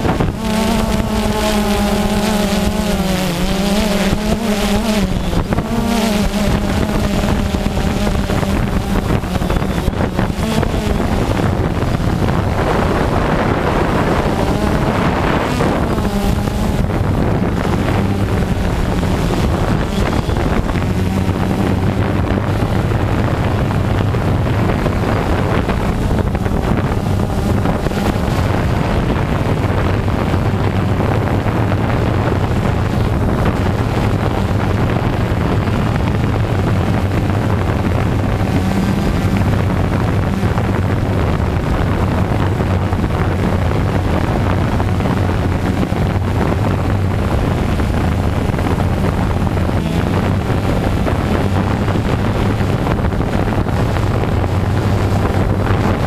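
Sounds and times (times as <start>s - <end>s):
quadcopter droning hum: 0.0s - 56.0s
wind noise on microphone: 0.0s - 56.0s.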